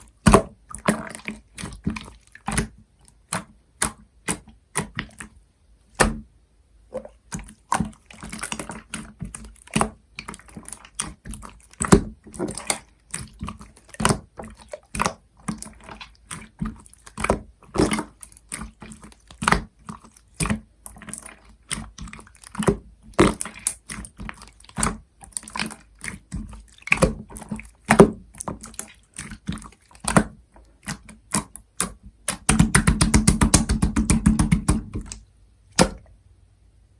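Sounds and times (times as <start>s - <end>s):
slime squishing with sticky pops: 0.0s - 6.3s, 6.9s - 35.2s, 35.8s - 36.1s.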